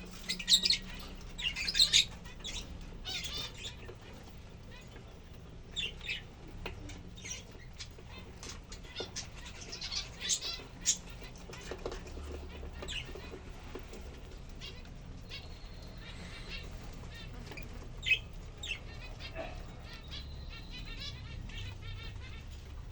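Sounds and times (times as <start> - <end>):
lovebirds chirping: 0.0 - 22.9.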